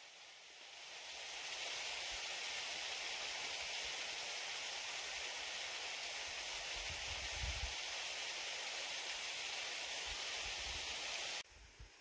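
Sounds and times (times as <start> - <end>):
stream flowing over rocks: 0.0 - 11.4.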